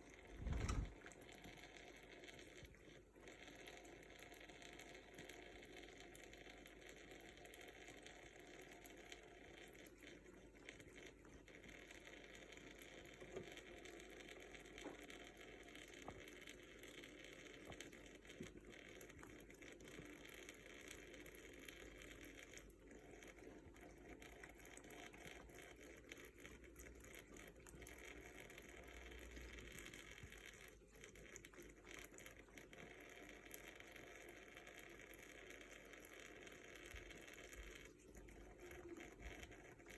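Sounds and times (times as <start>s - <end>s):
running water tap hiss: 0.0s - 39.9s.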